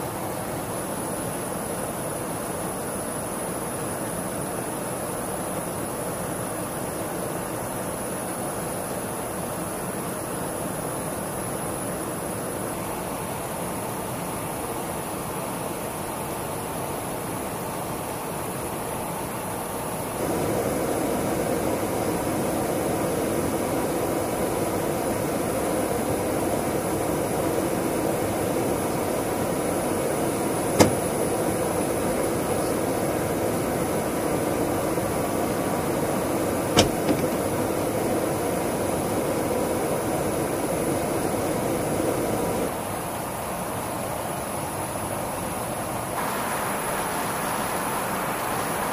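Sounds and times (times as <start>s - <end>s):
rushing airflow and engines: 0.0s - 43.6s.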